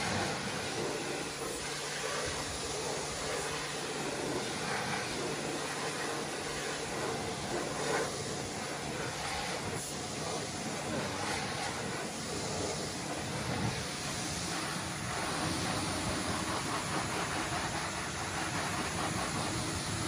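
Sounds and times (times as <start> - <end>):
pressure washer spraying water: 0.0 - 20.0.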